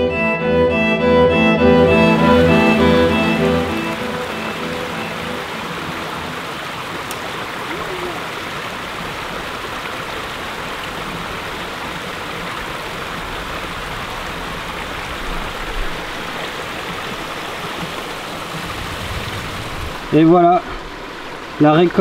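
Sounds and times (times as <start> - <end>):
stream splashing over rocks: 2.0 - 22.0.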